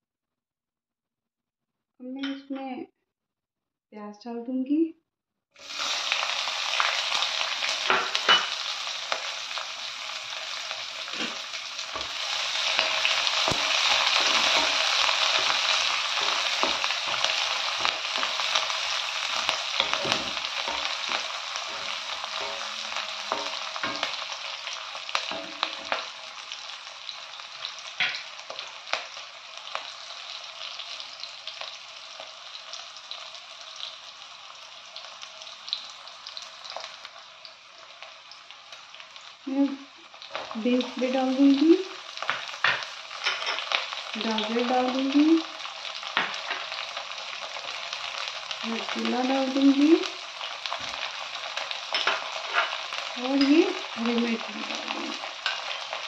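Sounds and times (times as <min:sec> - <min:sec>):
onions sizzling in oil: 0:05.6 - 0:56.0.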